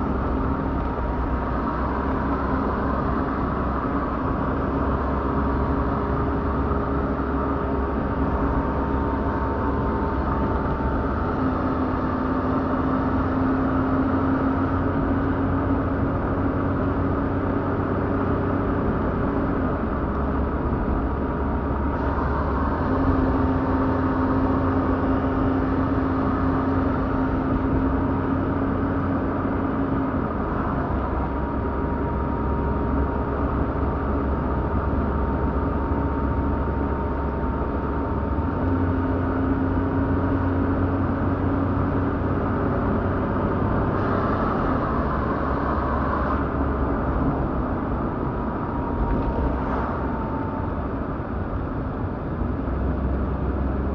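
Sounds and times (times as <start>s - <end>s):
car engine running: 0.0s - 53.9s
road noise: 0.0s - 53.9s.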